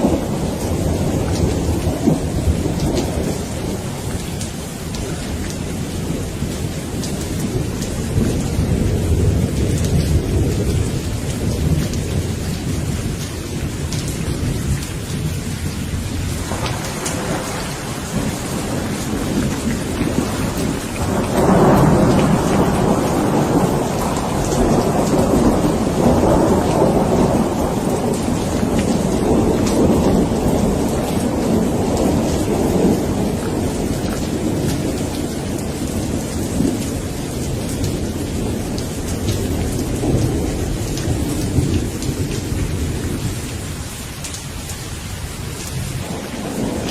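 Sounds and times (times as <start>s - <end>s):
steady rain: 0.0s - 46.9s
thunder rumbling: 0.0s - 46.9s.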